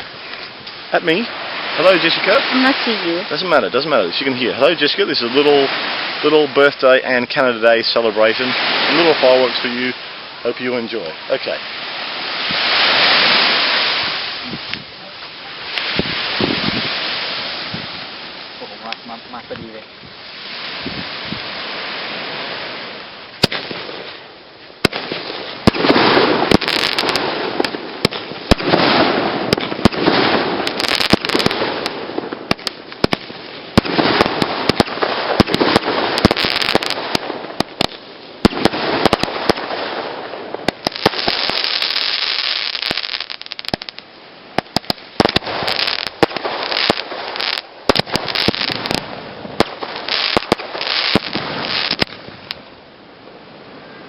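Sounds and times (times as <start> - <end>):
fireworks bangs: 0.0 - 52.6
fireworks crackling and hissing: 0.0 - 54.0.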